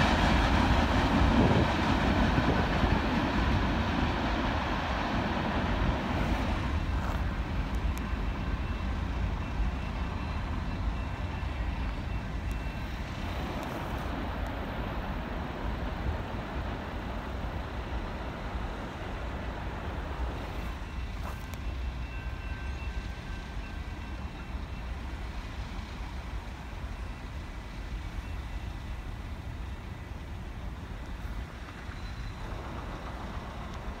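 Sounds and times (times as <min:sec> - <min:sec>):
freight train rumbling: 0:00.0 - 0:34.0.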